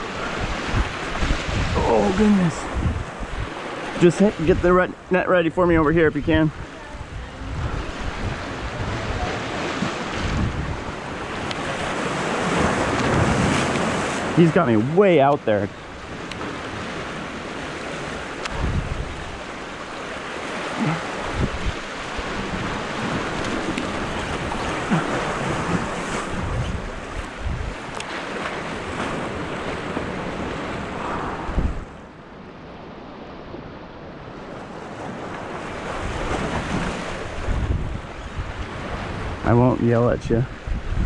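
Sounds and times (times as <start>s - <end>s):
wind buffeting microphone: 0.0s - 32.2s, 33.5s - 41.0s
surf washing over rocks: 0.0s - 41.0s.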